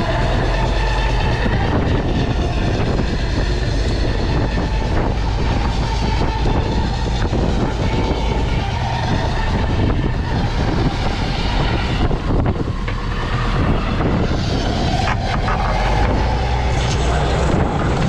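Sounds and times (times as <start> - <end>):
boat engine running: 0.0 - 18.0
water noise: 0.0 - 18.0
wind: 0.0 - 18.0.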